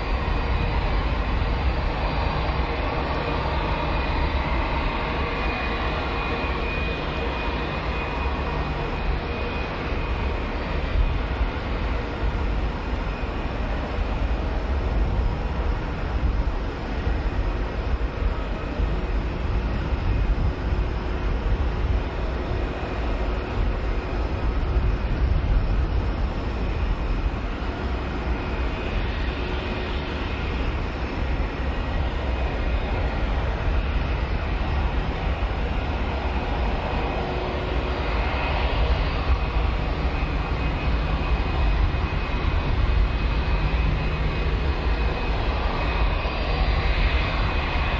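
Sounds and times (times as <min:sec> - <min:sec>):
faint engine whine: 0:00.0 - 0:47.9
jet engines rumbling at taxi power: 0:00.0 - 0:47.9.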